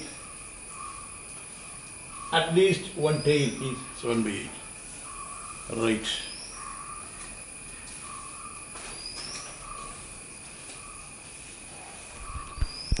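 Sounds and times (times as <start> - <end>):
high hum and hiss: 0.0 - 13.0.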